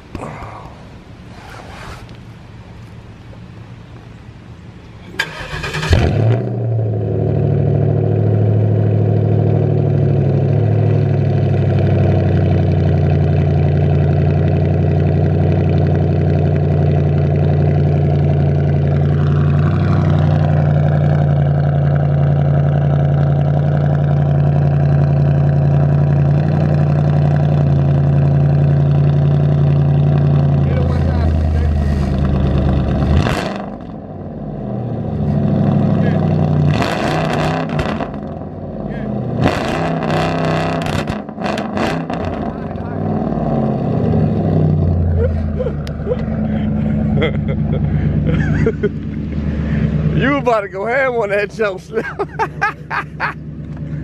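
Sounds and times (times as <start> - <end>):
loud car engine idling: 6.6 - 36.7, 40.0 - 54.0.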